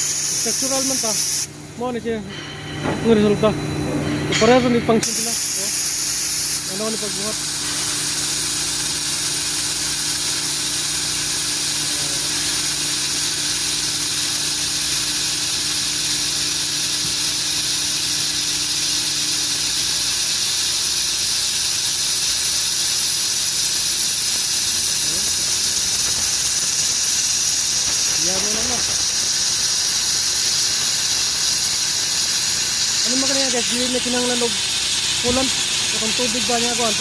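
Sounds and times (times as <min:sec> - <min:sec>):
low machine hum: 0:00.0 - 0:20.9, 0:23.5 - 0:37.0
drilling machine hiss: 0:00.0 - 0:37.0.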